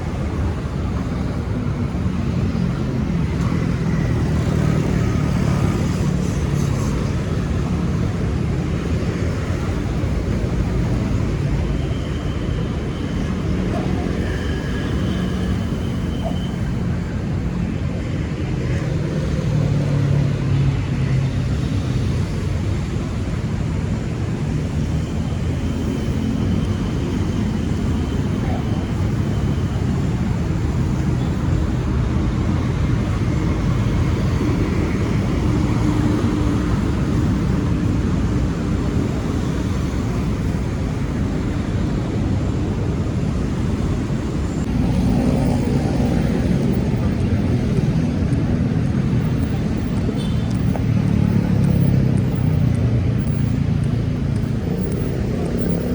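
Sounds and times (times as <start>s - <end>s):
cars and motorbikes passing: 0.0s - 55.9s.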